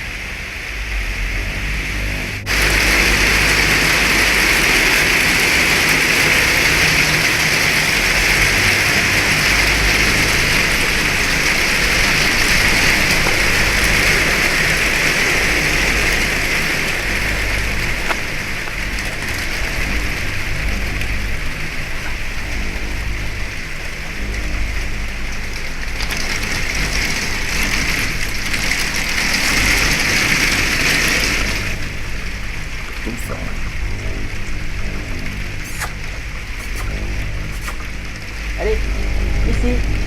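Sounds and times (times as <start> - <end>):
heavy rain on hard surfaces: 0.0 - 40.0.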